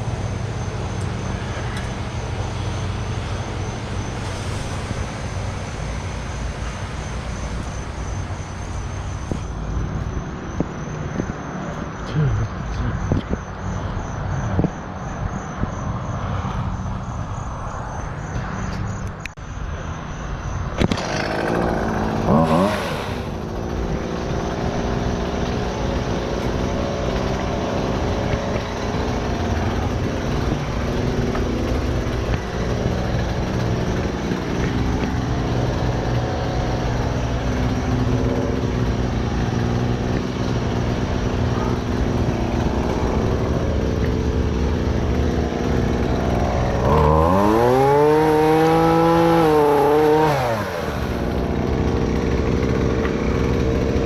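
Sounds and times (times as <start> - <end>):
engine running and revving: 0.0 - 19.3, 20.7 - 54.0.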